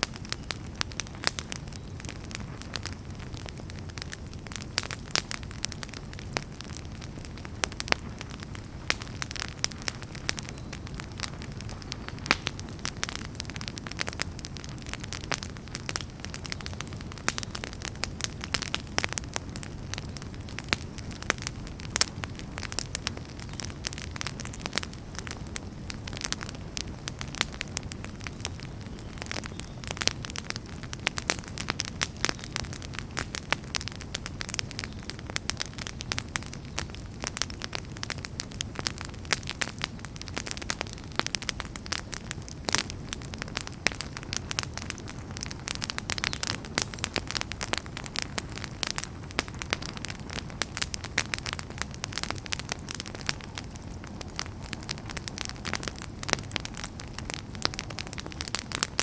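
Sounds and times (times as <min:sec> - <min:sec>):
fire crackles and pops: 0:00.0 - 0:59.0
low rumble of flame: 0:00.0 - 0:59.0.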